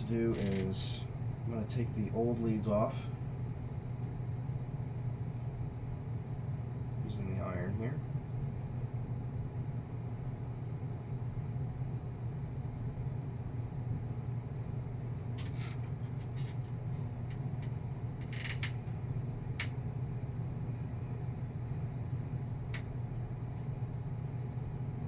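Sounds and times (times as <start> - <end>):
computer fans whirring: 0.0 - 25.0.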